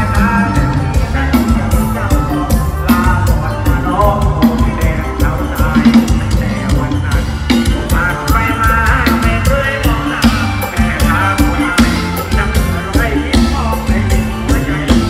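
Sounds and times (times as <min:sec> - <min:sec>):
live band music over loudspeakers: 0:00.0 - 0:15.0.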